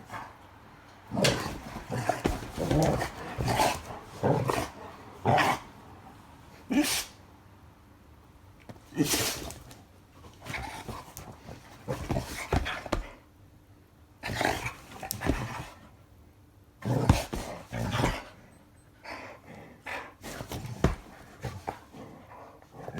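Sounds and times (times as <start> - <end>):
dogs growling and scuffling: 0.0 - 7.0, 8.6 - 13.3, 14.2 - 16.0, 16.8 - 18.4, 19.1 - 22.9.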